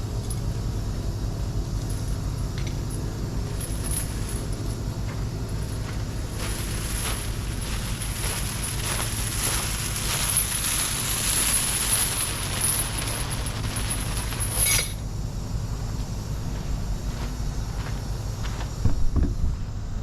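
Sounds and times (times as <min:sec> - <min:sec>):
low engine hum: 0:00.0 - 0:20.0
hiss: 0:00.7 - 0:19.6.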